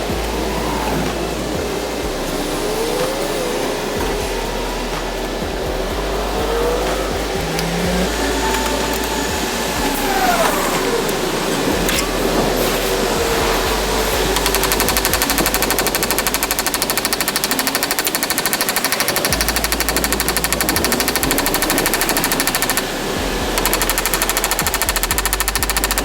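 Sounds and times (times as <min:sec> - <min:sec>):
rapid mechanical rattling: 0:00.0 - 0:26.0.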